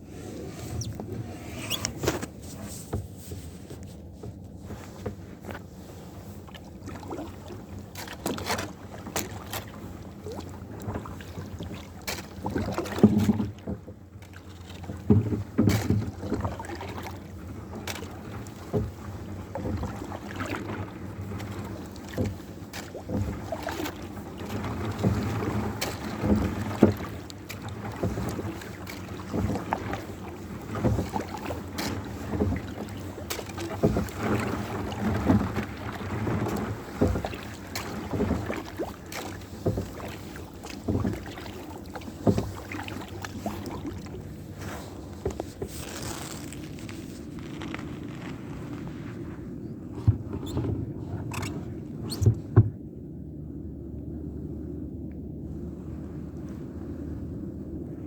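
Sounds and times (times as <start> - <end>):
paddle splashing water: 0.0 - 54.6
water knocking against hull: 4.1 - 53.0.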